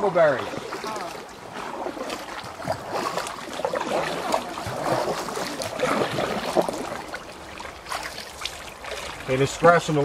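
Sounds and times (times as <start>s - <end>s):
water rushing and splashing: 0.0s - 10.0s.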